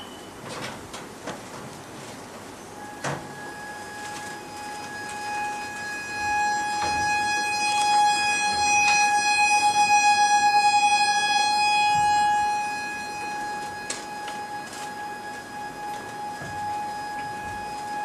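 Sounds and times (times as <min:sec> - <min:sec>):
held musical note: 0:02.8 - 0:18.0.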